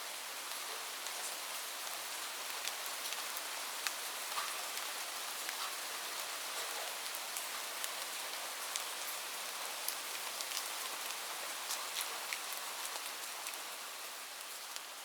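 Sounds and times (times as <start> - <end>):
raindrops ticking on surface: 0.5 - 15.0.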